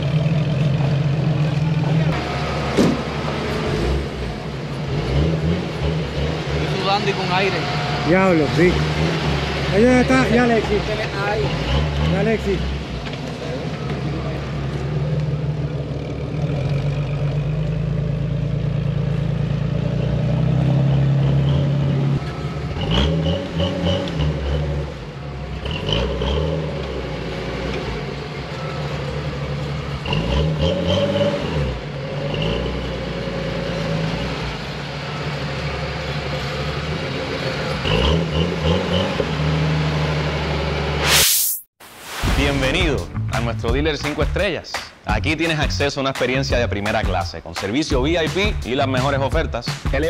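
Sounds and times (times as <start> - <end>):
car engine revving under load: 0.0 - 41.1.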